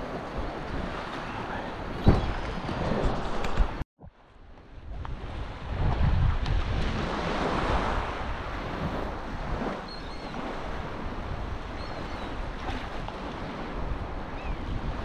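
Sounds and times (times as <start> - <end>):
surf washing and lapping: 0.0 - 15.0
wind buffeting microphone: 0.0 - 15.0.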